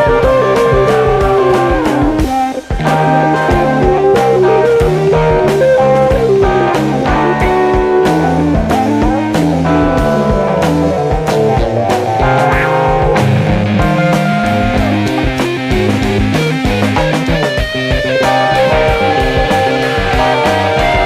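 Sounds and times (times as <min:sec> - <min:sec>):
bass and drums: 0:00.0 - 0:21.0
guitar melody: 0:00.0 - 0:21.0.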